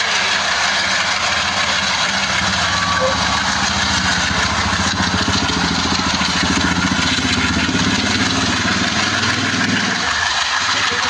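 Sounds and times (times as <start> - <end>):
diesel locomotive exhaust chugging: 0.0 - 11.0
low engine drone: 0.0 - 11.0.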